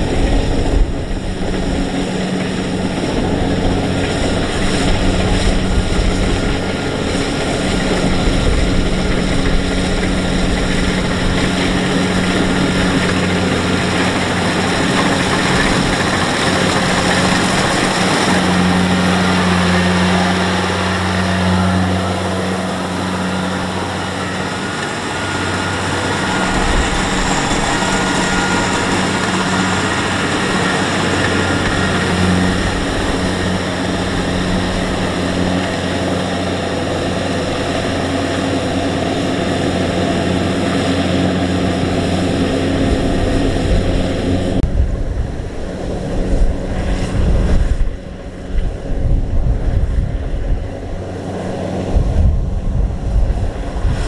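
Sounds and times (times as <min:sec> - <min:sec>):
combine harvester diesel engine drone: 0:00.0 - 0:54.0
machinery whirring: 0:00.0 - 0:54.0.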